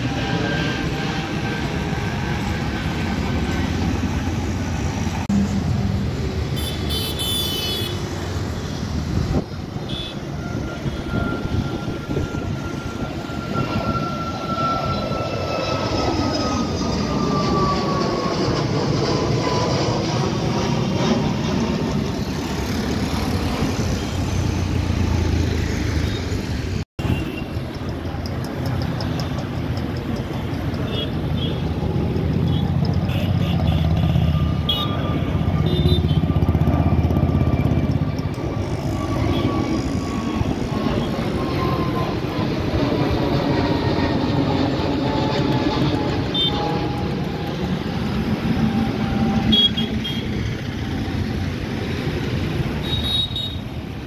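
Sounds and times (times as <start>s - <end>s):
jet engine whine falling in pitch: 0.0s - 54.0s
jet engines roaring: 0.0s - 54.0s.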